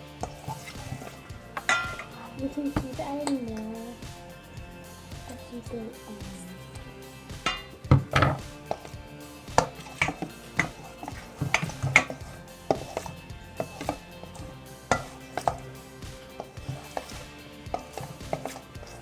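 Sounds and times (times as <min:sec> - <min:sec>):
utensil scraping against a bowl: 0:00.0 - 0:19.0.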